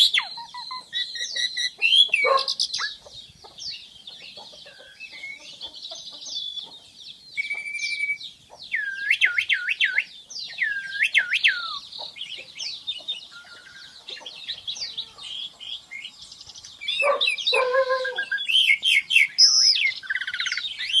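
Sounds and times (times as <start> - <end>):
harsh low bird calls: 0.0 - 21.0
starling singing: 0.0 - 21.0.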